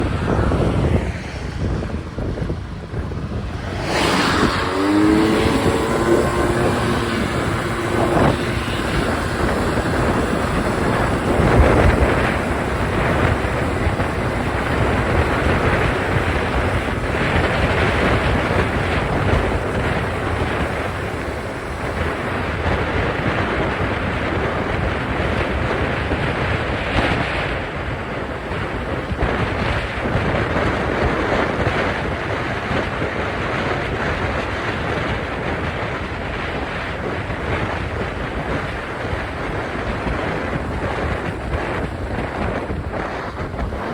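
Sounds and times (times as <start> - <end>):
scooter engine drone: 0.0 - 43.9
wind rushing over microphone: 0.0 - 43.9.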